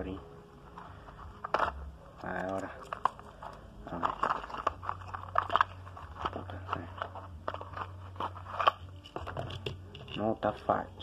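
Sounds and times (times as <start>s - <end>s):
packaging crackling and crinkling: 0.6s - 10.3s.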